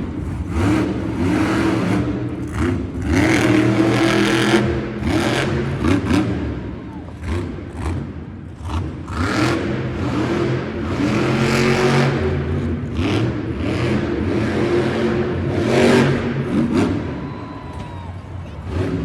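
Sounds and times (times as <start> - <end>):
truck engine revving hard: 0.0 - 17.4, 18.5 - 19.0.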